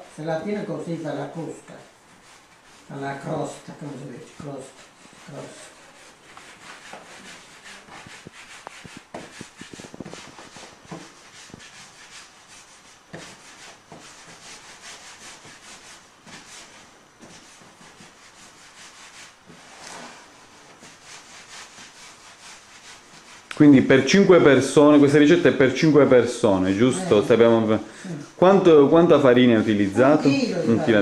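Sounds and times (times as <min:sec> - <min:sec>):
hands rubbing dough on wood: 0:00.0 - 0:27.8, 0:28.6 - 0:31.0.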